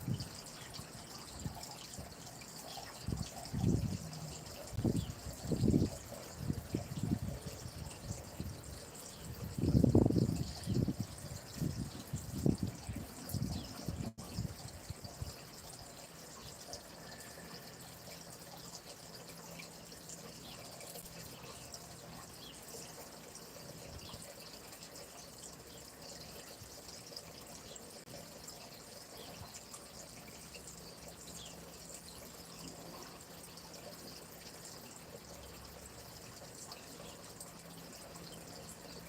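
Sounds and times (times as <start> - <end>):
stream running water: 0.0 - 39.0
water drips and splashes: 0.0 - 39.0.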